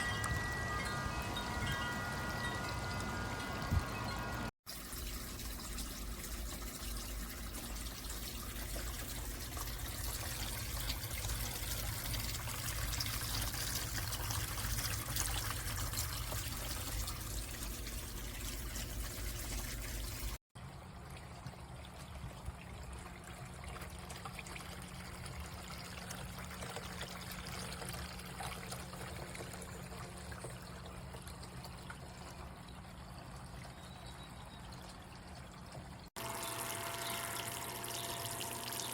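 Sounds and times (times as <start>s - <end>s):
fountain water trickling and splashing: 0.0s - 38.9s.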